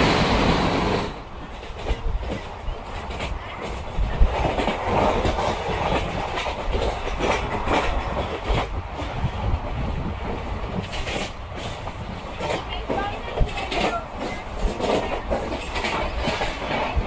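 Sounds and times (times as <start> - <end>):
train wheels rumbling: 0.0 - 17.0
wheels clicking over rail joints: 1.4 - 17.0.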